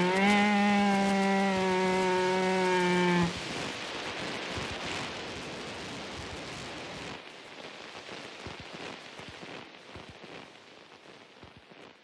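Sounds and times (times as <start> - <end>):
hissing rain-like noise: 0.0 - 12.0
small clicks and crackles: 0.0 - 12.0.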